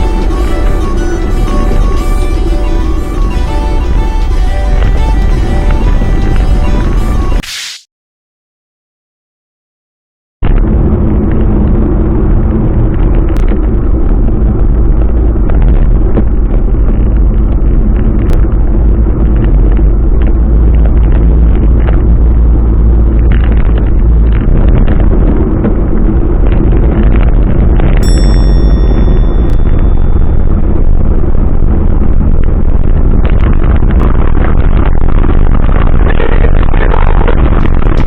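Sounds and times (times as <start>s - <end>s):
vehicle engine and road noise: 0.0s - 7.4s, 10.4s - 38.0s.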